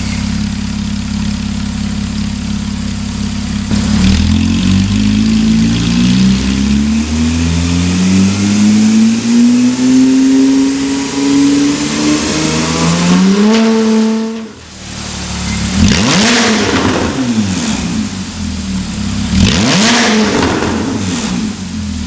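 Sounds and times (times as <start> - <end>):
car engine revving: 3.4 - 22.0.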